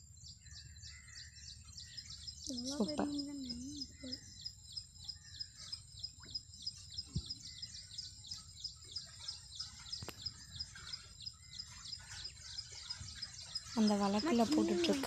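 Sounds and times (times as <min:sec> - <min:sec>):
outdoor background noise: 0:00.0 - 0:15.0
small bird chirping: 0:00.0 - 0:15.0.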